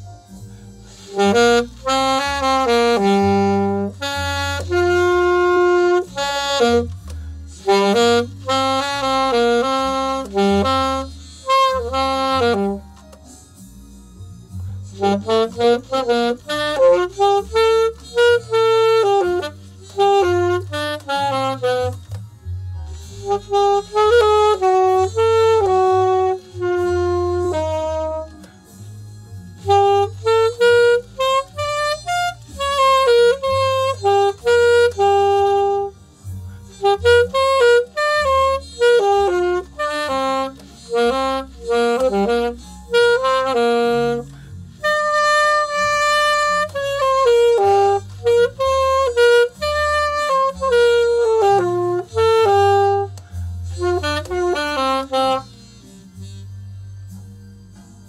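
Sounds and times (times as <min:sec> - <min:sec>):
alto saxophone melody: 0:00.0 - 0:57.2
low bass accompaniment: 0:00.0 - 0:58.0.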